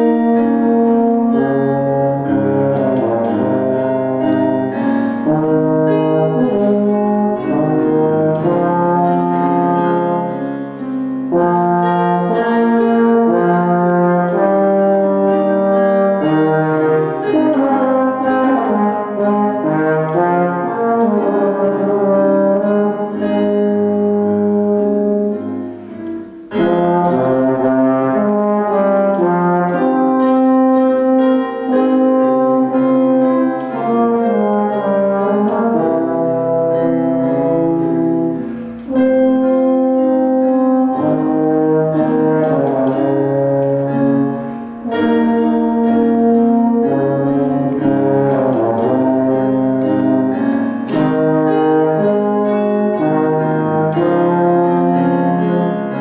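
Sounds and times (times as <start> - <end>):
valved brass instrument playing: 0.0 - 56.0.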